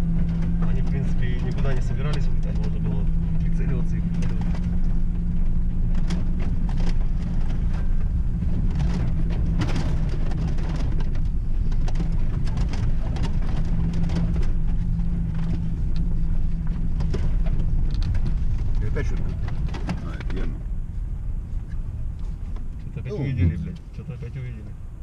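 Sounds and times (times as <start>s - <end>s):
knocks and rattles: 0.0s - 20.6s
engine and road drone: 0.0s - 25.0s.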